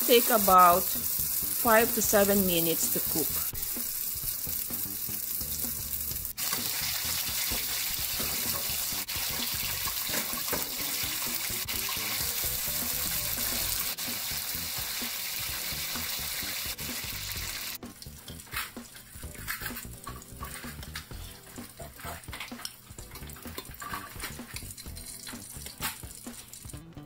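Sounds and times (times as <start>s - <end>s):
sausage rolls sizzling in oil: 0.0s - 26.9s.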